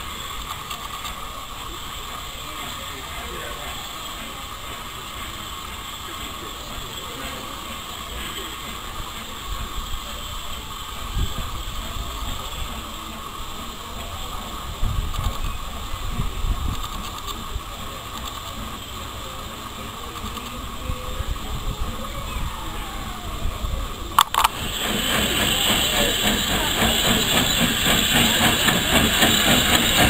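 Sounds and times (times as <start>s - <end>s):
train clanks and knocks: 0.0s - 30.0s
train wheels rumbling on rails: 0.0s - 30.0s.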